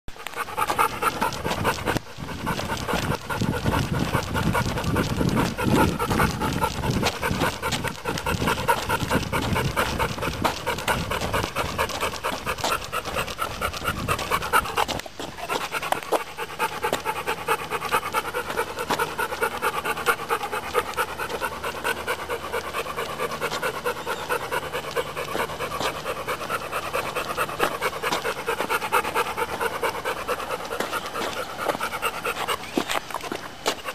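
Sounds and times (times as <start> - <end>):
dog panting: 0.1 - 33.9.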